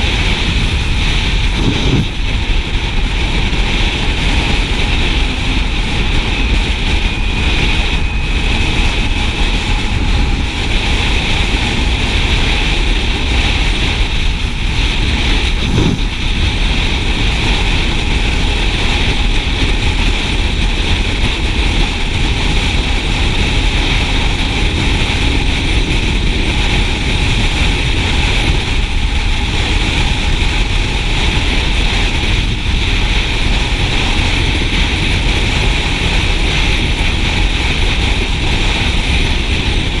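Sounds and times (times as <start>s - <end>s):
motorcycle road noise: 0.0s - 40.0s
wind buffeting microphone: 0.0s - 40.0s.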